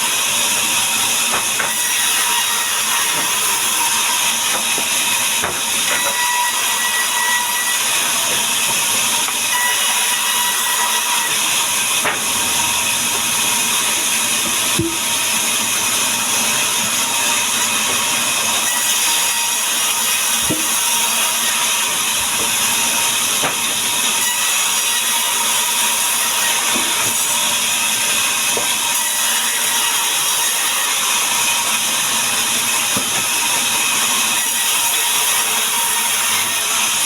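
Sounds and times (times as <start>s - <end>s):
power saw cutting wood: 0.0s - 37.0s.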